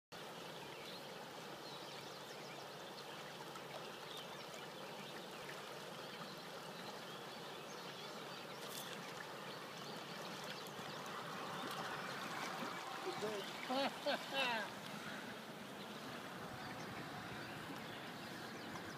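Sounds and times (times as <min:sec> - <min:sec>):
river water flowing: 0:00.2 - 0:18.9.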